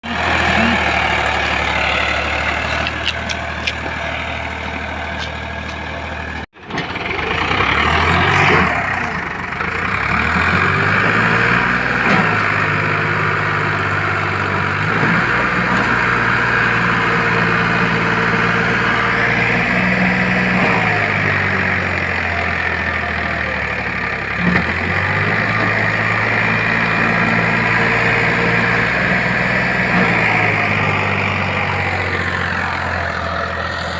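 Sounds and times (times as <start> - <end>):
tractor diesel engine revving: 0.0 - 33.9.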